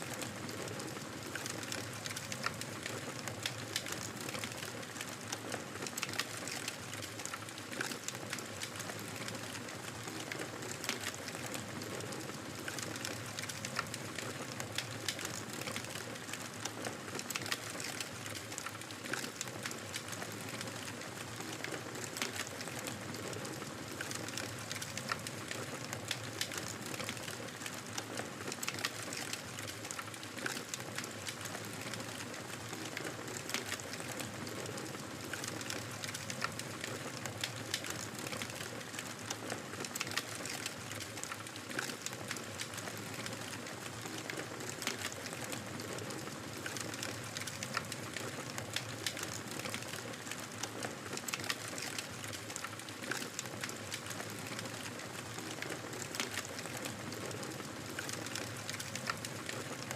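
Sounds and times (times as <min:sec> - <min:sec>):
wood fire crackling: 0:00.1 - 0:59.9.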